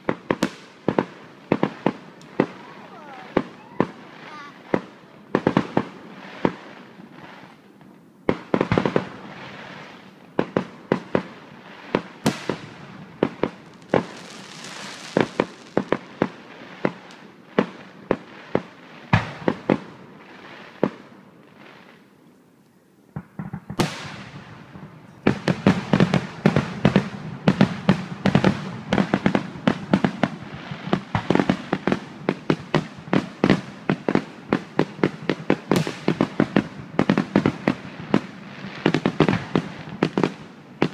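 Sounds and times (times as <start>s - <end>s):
fireworks bursting with bangs: 0.0s - 22.1s, 23.1s - 40.9s.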